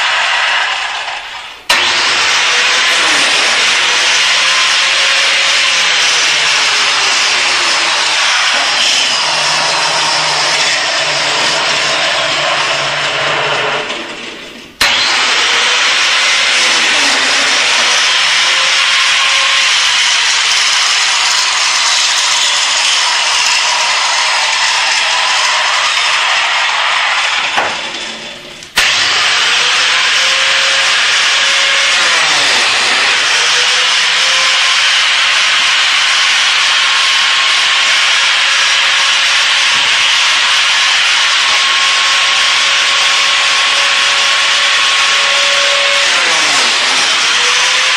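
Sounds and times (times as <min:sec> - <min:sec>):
biscuit joiner motor whine: 0:01.5 - 0:47.9.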